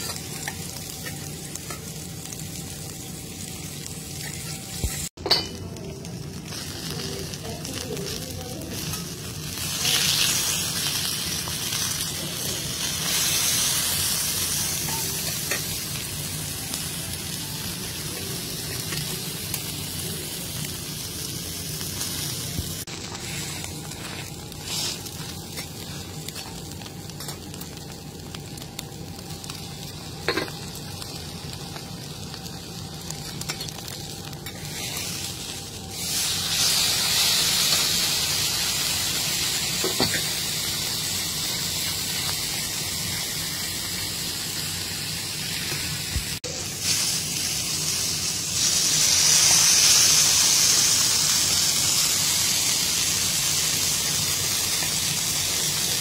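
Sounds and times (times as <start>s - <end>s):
steak sizzling on a griddle: 0.0s - 56.0s.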